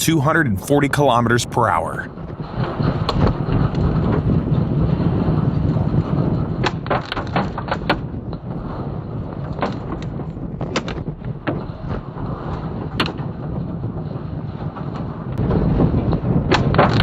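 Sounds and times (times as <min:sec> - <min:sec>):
storm wind on microphone: 0:02.1 - 0:17.0.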